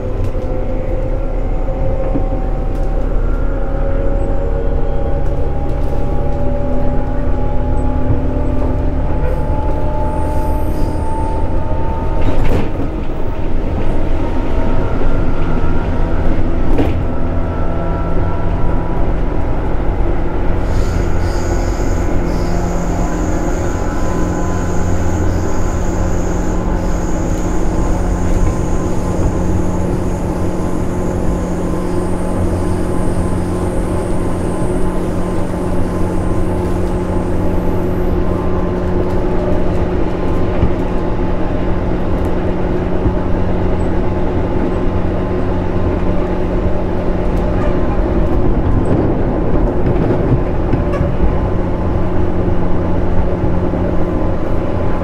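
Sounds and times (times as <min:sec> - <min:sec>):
train wheel and motor noise: 0:00.0 - 0:55.0.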